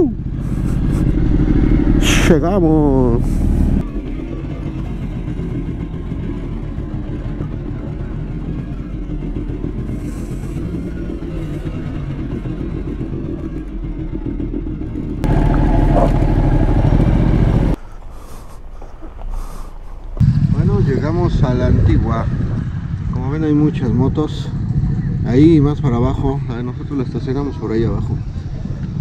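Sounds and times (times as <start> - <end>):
motorcycle engine rumbling: 0.0 - 29.0.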